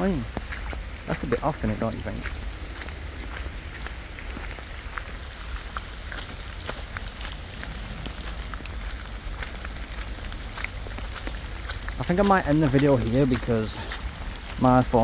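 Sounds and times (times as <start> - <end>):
rain falling: 0.0 - 15.0
raindrops tapping on microphone: 0.0 - 15.0
steady low rumble: 0.0 - 15.0.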